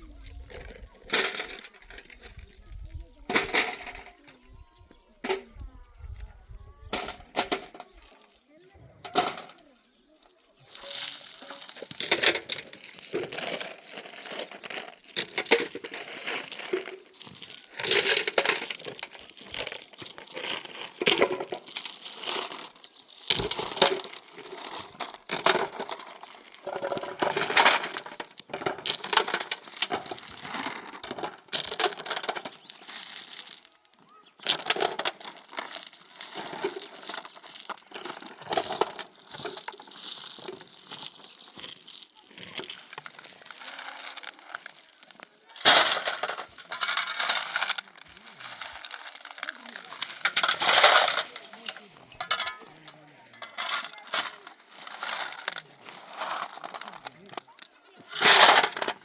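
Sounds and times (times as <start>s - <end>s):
crinkling and rustling: 0.0s - 59.0s.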